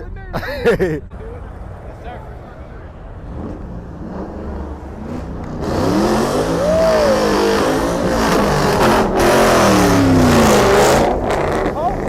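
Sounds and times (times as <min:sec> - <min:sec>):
car engine revving: 0:01.4 - 0:12.0.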